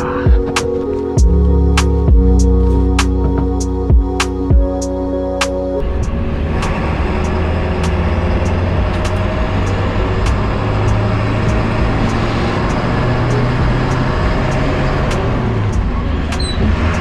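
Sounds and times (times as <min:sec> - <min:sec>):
engine and road noise: 0:00.0 - 0:17.0
low hum: 0:00.0 - 0:17.0
music: 0:00.0 - 0:17.0.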